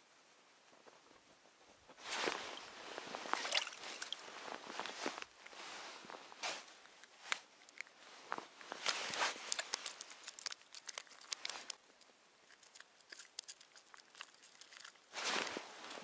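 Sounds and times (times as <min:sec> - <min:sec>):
crinkly rustling: 0:00.7 - 0:16.0.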